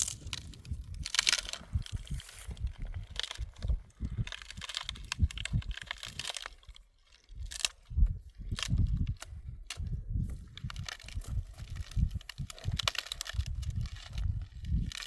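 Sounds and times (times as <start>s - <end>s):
crunching and crackling: 0.0s - 15.0s.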